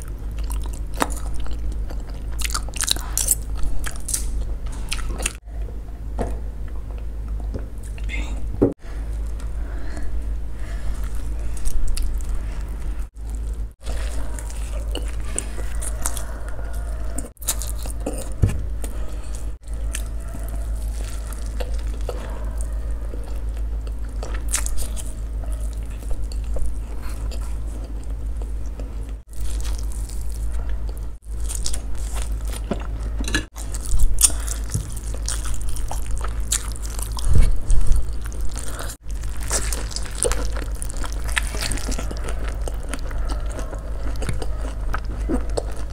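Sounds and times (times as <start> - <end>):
biting and wet chewing: 0.0 - 5.6, 9.0 - 45.9
steady low hum: 0.0 - 45.9.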